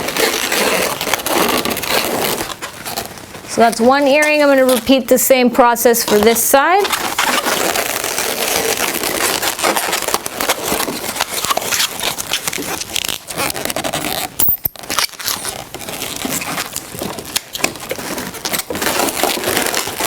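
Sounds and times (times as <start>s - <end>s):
balloon squeak: 0.0s - 3.6s, 6.8s - 20.0s
balloons rubbing and crackling: 0.0s - 20.0s.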